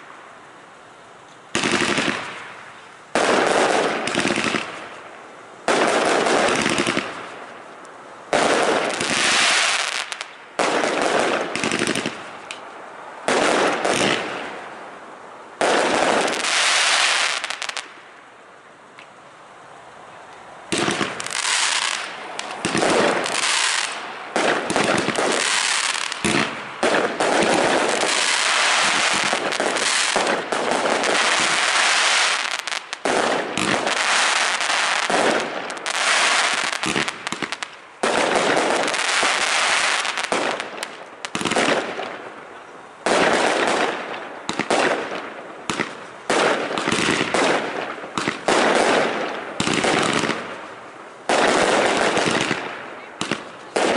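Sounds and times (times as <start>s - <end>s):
fireworks bangs and crackling: 1.5s - 18.2s, 20.7s - 53.9s.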